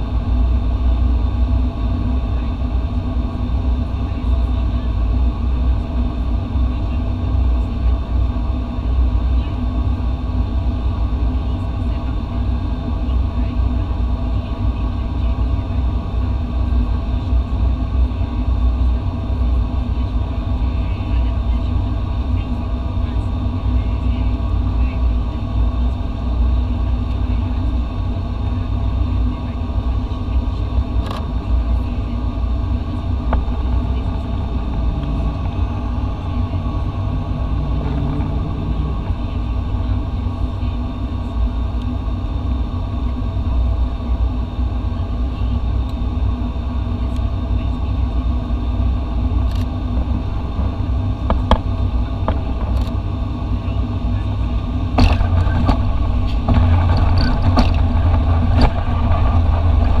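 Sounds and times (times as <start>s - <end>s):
engine and propeller drone: 0.0s - 60.0s
runway rumble: 0.0s - 60.0s.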